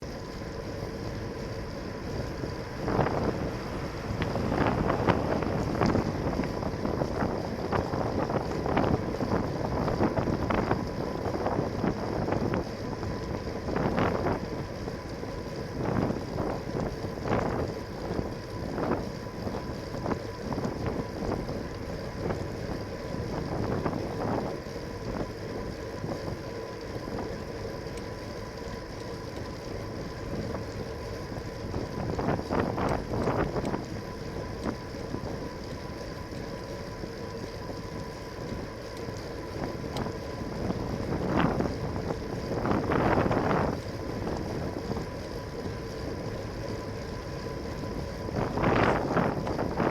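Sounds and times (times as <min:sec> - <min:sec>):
wind buffeting microphone: 0:00.0 - 0:27.6, 0:29.2 - 0:49.9.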